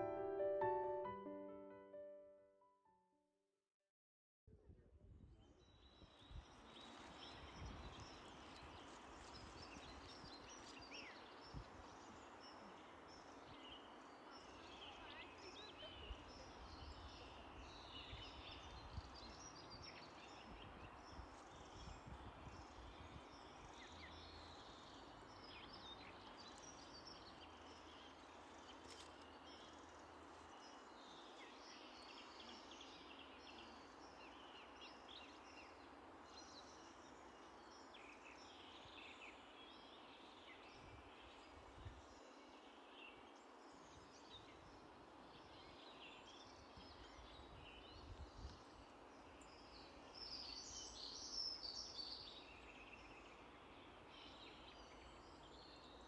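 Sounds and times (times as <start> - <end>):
small birds chirping: 5.4 - 56.0.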